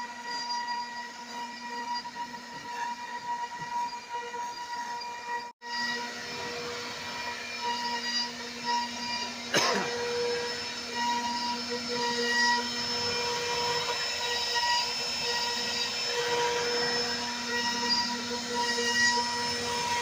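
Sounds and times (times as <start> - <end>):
router cutting noise: 0.0 - 20.0
router spindle high-pitched whine: 0.0 - 20.0.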